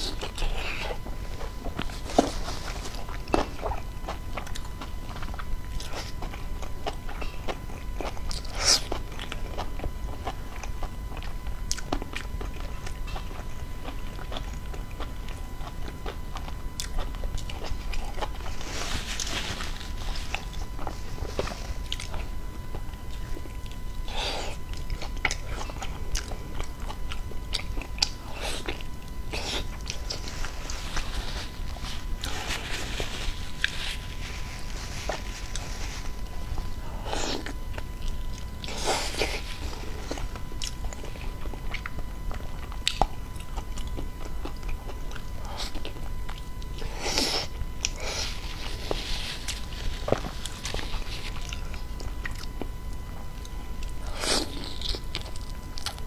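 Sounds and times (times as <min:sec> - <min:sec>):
chewing soft food: 0:00.0 - 0:56.0.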